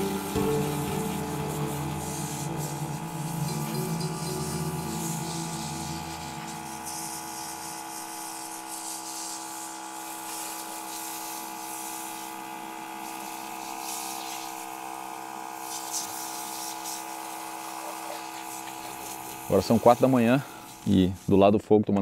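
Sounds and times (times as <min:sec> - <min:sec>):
water spraying: 0:00.0 - 0:12.4, 0:13.0 - 0:14.8, 0:15.5 - 0:21.4
electric water pump whining: 0:00.0 - 0:21.4.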